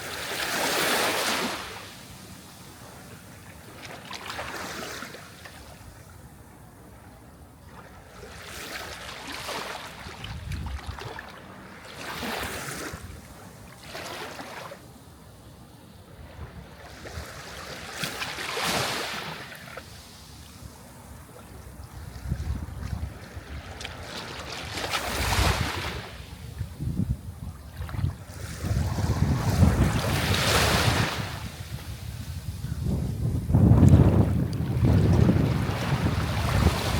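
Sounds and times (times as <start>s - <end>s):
sea waves breaking on shore: 0.0s - 6.0s, 7.7s - 14.8s, 16.2s - 26.8s, 27.7s - 36.9s.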